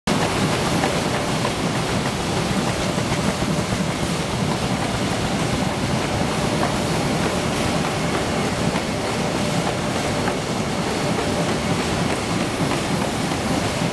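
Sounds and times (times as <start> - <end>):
rapid ticking of rollers: 0.1 - 13.9.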